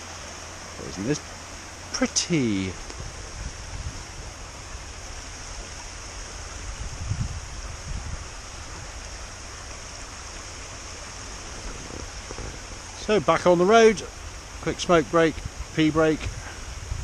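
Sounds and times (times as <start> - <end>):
low rumble: 0.0 - 14.6
stream water rushing: 0.0 - 17.0.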